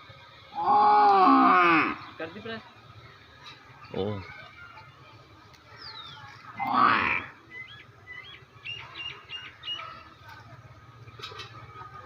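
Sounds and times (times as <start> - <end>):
small birds chirping: 1.8 - 12.0.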